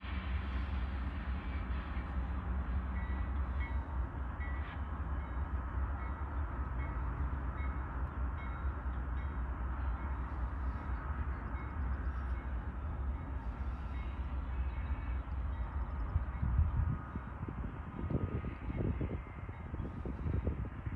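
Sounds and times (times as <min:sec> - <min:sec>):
diesel train rumble: 0:00.0 - 0:20.9.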